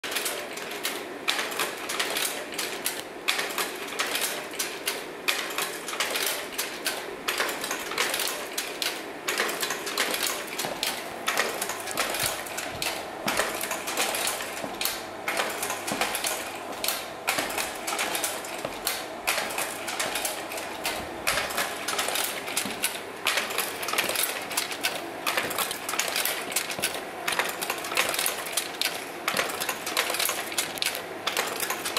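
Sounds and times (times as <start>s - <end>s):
slide projectors clicking: 0.2s - 31.9s.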